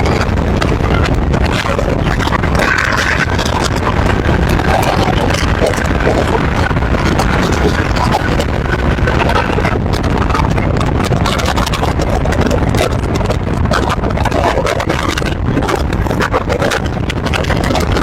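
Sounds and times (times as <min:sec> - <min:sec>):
car road and wind noise: 0:00.0 - 0:18.0
wind buffeting microphone: 0:00.0 - 0:18.0.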